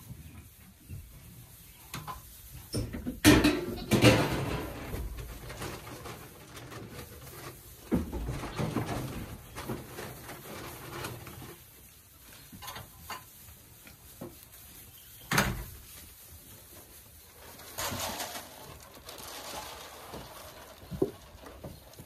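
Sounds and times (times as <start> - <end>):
rustling on straw: 0.0 - 22.0.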